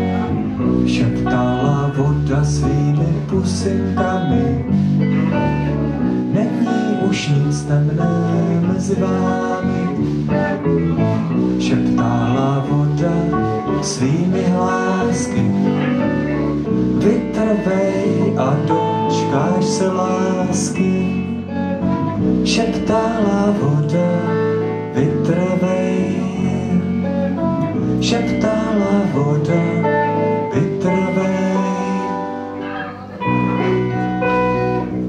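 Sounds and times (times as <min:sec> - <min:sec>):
bass guitar: 0:00.0 - 0:35.0
electric guitars: 0:00.0 - 0:35.0
man singing: 0:00.0 - 0:35.0.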